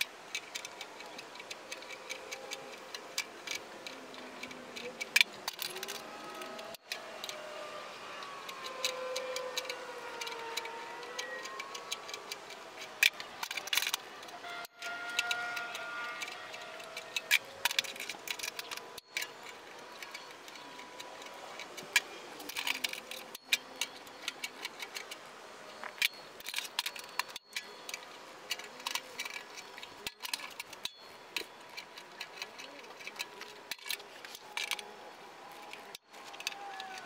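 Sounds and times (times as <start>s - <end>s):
metallic clicks of folding tool: 0.0s - 7.5s, 8.3s - 25.2s, 25.8s - 34.9s.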